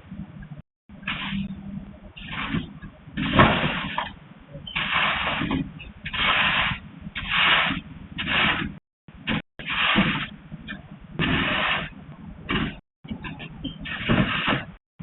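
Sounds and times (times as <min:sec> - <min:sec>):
scraping strokes: 0:01.0 - 0:01.6, 0:02.2 - 0:10.4, 0:11.2 - 0:14.8.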